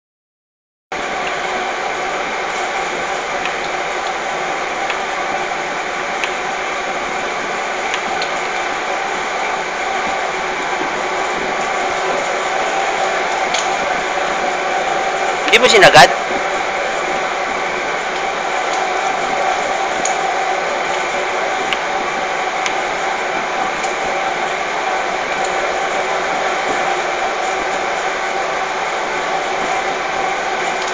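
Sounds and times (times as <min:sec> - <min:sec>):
steady rushing air noise: 0:01.0 - 0:30.8.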